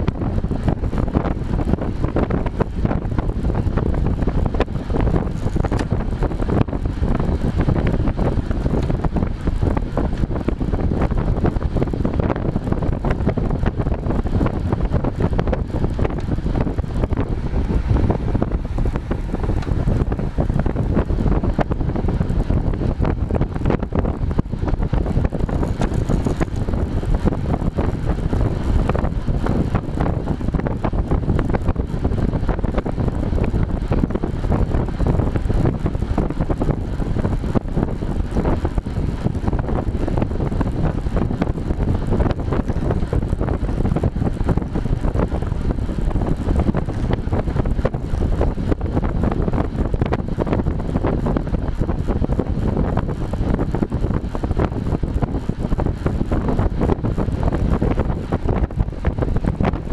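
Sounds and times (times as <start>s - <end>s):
heavy wind buffeting microphone: 0.0s - 59.9s.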